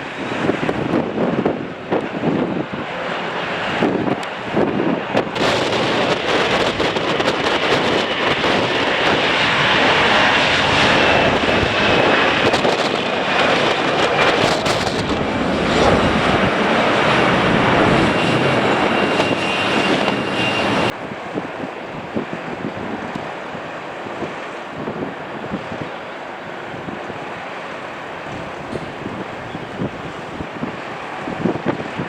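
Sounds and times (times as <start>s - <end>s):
jet engines whining: 0.0s - 32.0s
wind buffeting microphone: 0.0s - 32.0s.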